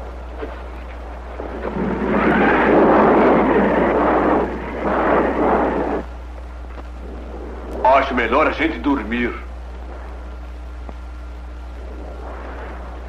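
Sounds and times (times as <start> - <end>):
steady low hum: 0.0 - 13.0
thunder rolling: 0.0 - 13.0.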